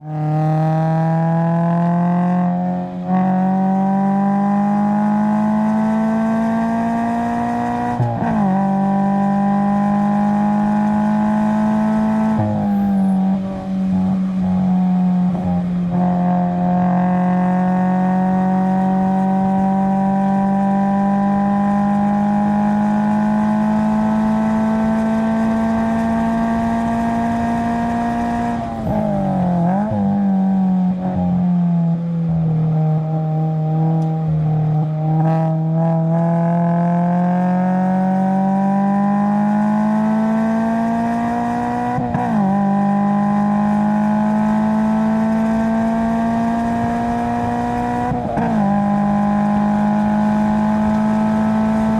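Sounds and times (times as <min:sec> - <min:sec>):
car engine accelerating hard: 0:00.0 - 0:51.9.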